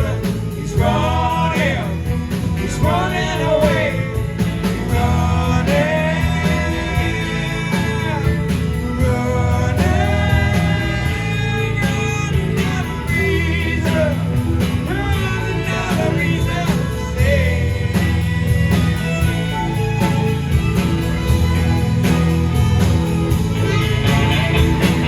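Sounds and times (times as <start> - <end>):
bass: 0.0 - 25.0
drum beat: 0.0 - 25.0
gliding lead melody: 0.0 - 25.0
rock band playing: 0.0 - 25.0.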